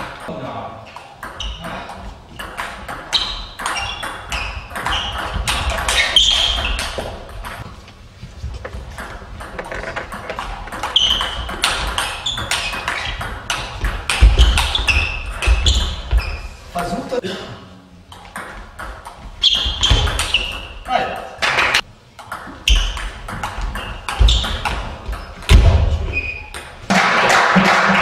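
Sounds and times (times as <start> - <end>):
shoes squeaking on floor: 0.9 - 17.0, 18.1 - 20.9, 22.5 - 26.8.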